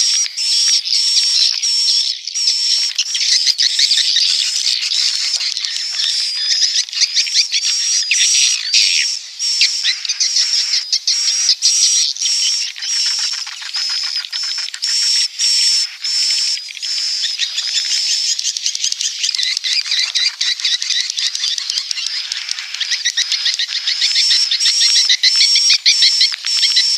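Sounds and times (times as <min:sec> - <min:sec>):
swiftlets twittering and chirping: 0:00.0 - 0:26.9.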